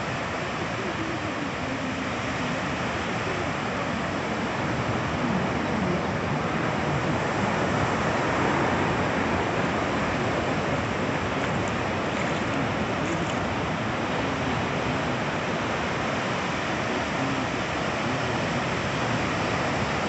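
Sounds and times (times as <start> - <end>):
sea surf on beach: 0.0 - 20.0.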